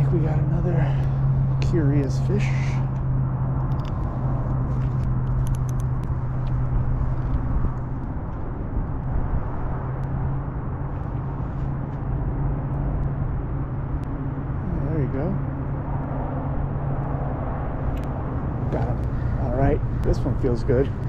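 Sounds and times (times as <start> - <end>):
steady low hum: 0.0 - 21.0
wind buffeting microphone: 0.0 - 21.0.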